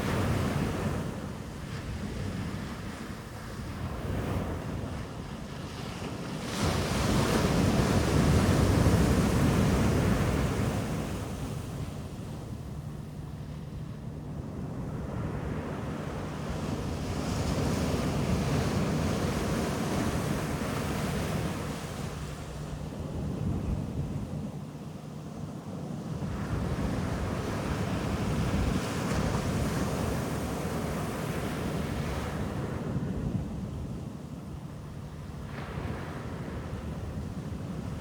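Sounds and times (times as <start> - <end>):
ocean waves breaking on beach: 0.0 - 13.7, 14.4 - 38.0.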